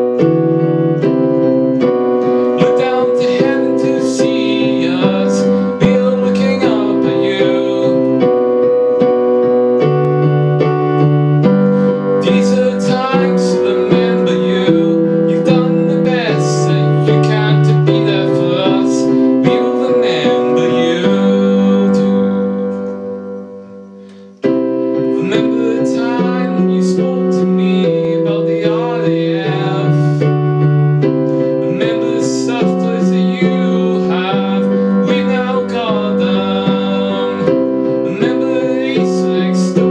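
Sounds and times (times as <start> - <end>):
electronic keyboard piano ballad: 0.0 - 39.9.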